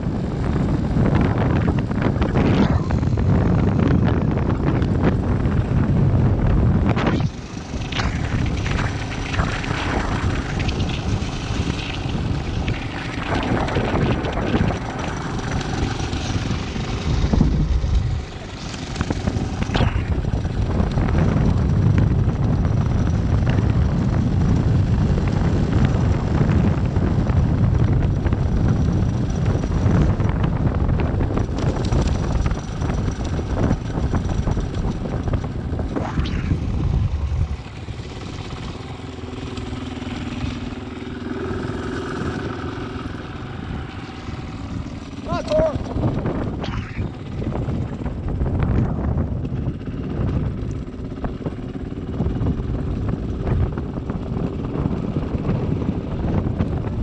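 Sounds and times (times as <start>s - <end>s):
motorcycle engine riding: 0.0s - 57.0s.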